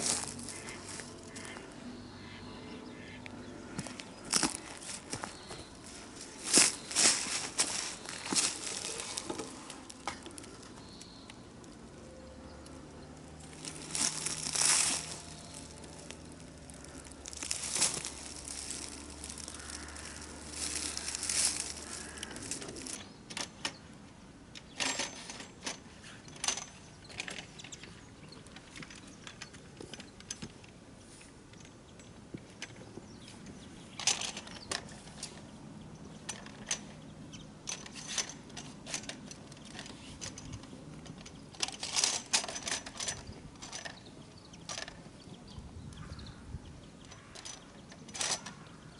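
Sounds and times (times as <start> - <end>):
fishing gear clicking and clattering: 3.6 - 11.0, 11.6 - 23.8, 24.5 - 30.8, 31.5 - 45.1, 47.0 - 48.8.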